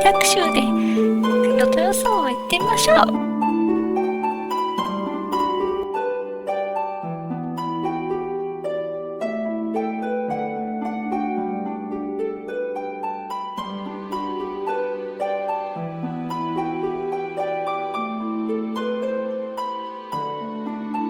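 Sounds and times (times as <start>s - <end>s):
plucked harp-like notes: 0.0s - 21.0s.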